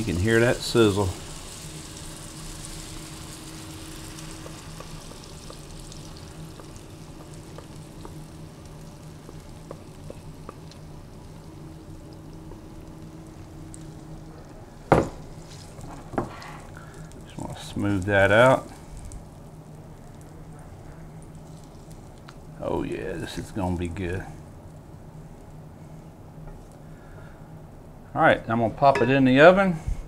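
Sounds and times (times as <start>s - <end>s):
batter sizzling in skillet: 0.0s - 25.6s.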